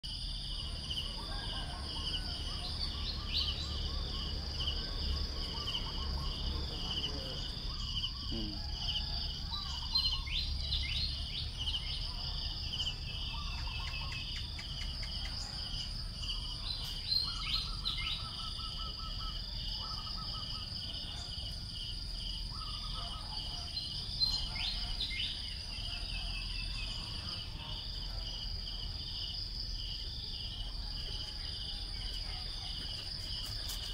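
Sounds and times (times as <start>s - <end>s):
insect chorus buzzing: 0.0s - 33.9s
pulsing insect trill: 0.0s - 33.9s.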